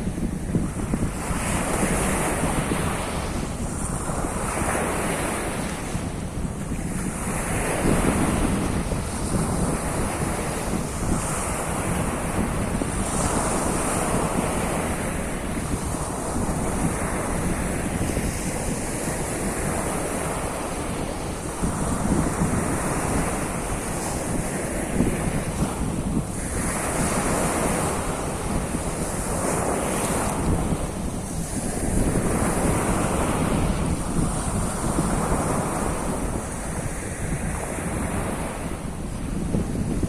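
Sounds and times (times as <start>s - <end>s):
waves breaking on shore: 0.0s - 40.0s
wind rumbling on microphone: 0.0s - 40.0s.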